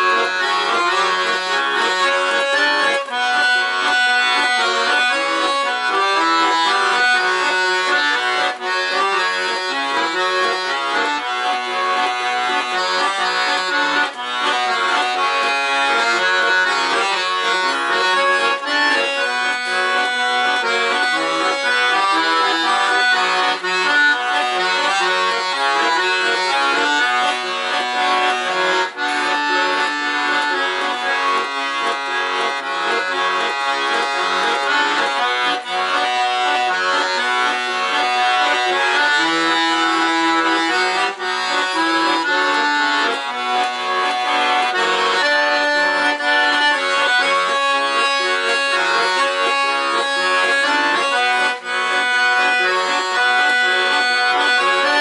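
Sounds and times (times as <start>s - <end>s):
accordion playing a song: 0.0s - 55.0s.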